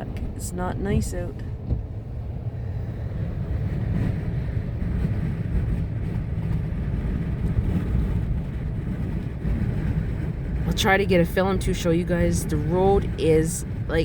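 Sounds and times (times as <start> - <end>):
wind buffeting a truck: 0.0 - 14.0.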